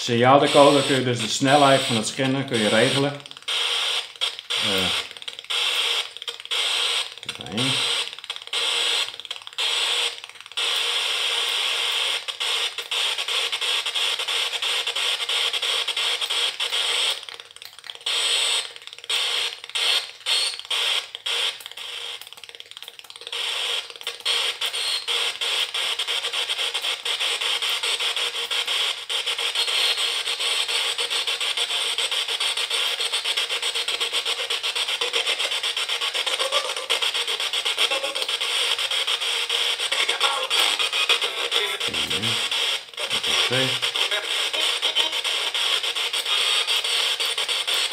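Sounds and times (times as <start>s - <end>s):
radio static hissing: 0.0s - 17.3s, 18.0s - 22.2s, 23.2s - 47.9s.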